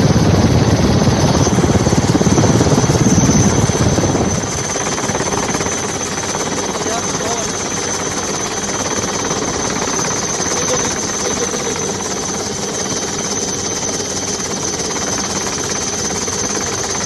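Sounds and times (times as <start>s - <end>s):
constant high whine: 0.0s - 17.0s
helicopter rotor and engine noise: 0.0s - 17.0s.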